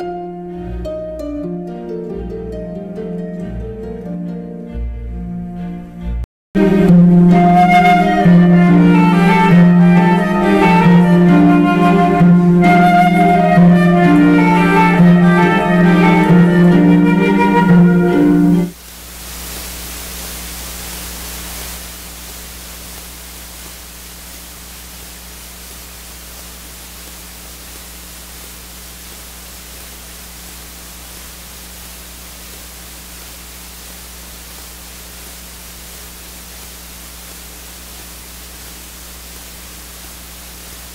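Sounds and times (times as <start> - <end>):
electronic hiss: 6.6 - 40.9.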